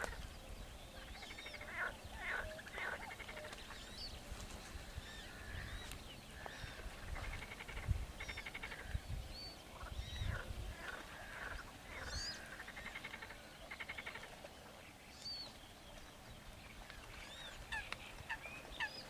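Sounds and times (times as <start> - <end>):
flock of birds chirping: 0.0 - 19.0.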